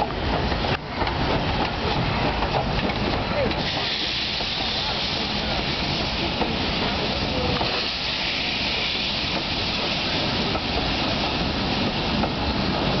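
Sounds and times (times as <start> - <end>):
steam locomotive hissing: 0.0 - 13.0
wheels rumbling on rails: 0.0 - 13.0.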